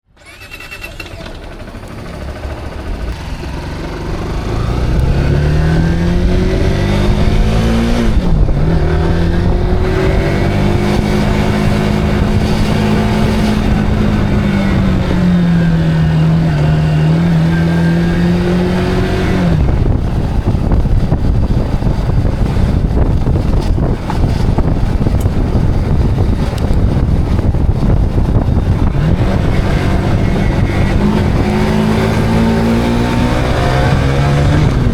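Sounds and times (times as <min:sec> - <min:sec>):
motorcycle engine accelerating: 0:00.0 - 0:34.9
wind and road noise: 0:00.0 - 0:34.9.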